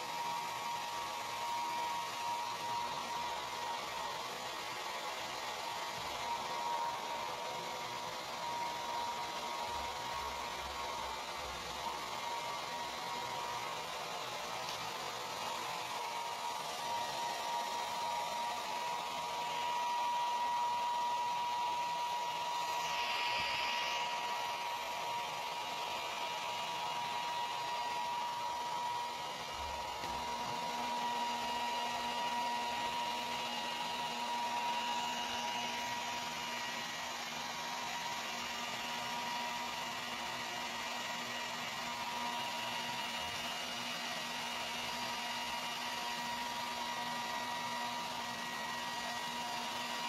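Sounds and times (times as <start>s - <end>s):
hair dryer running: 0.0s - 50.0s.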